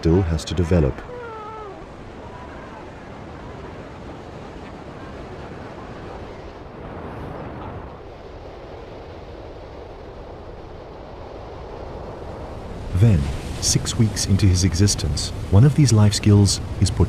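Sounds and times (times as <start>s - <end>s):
ocean waves breaking: 0.0s - 17.0s
wind: 0.0s - 17.0s.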